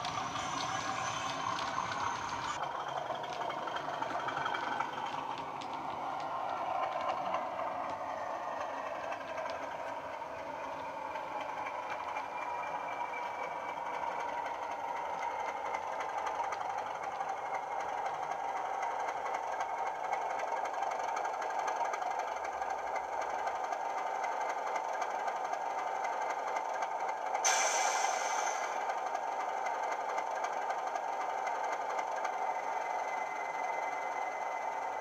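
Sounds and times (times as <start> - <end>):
model train diesel engine sound: 0.0 - 35.0.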